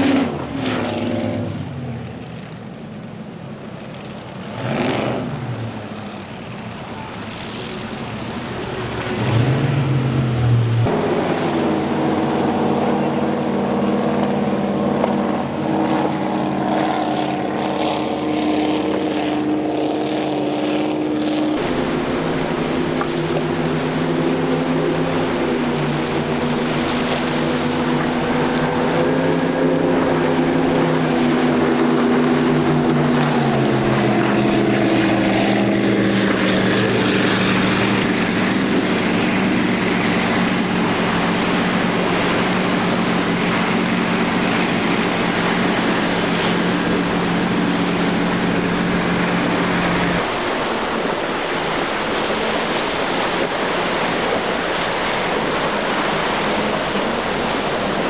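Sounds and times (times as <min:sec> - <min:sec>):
motorboat engine running: 0:00.0 - 0:58.0
waves washing: 0:00.0 - 0:58.0.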